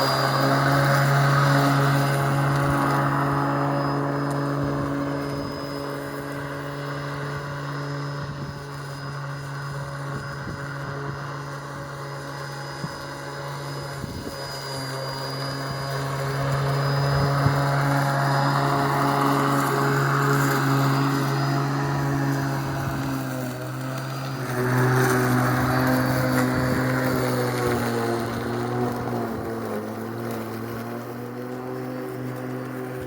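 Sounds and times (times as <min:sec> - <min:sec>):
electric lawn mower running: 0:00.0 - 0:33.0.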